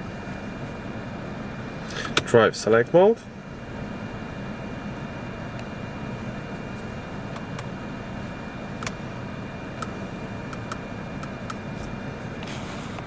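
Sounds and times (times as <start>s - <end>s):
car rumble and hiss: 0.0s - 13.0s.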